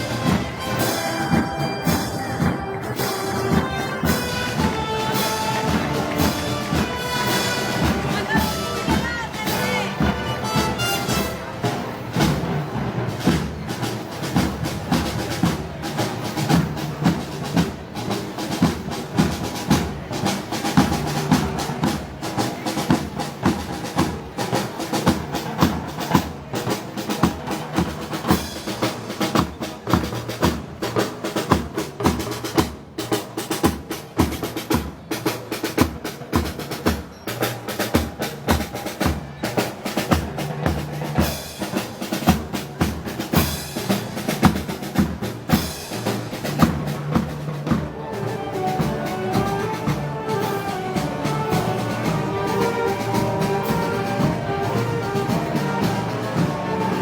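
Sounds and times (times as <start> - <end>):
snare and bass drum: 0.0 - 57.0.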